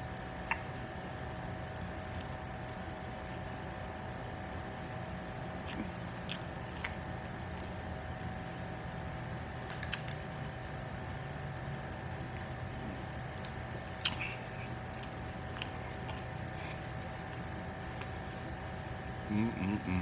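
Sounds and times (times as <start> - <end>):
steady background hum: 0.0 - 20.0
person chewing pizza crust: 0.2 - 10.7, 12.2 - 20.0.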